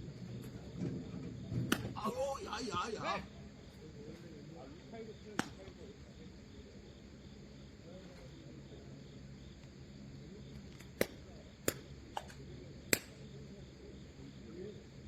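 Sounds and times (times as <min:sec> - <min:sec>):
low background murmur: 0:00.0 - 0:15.0.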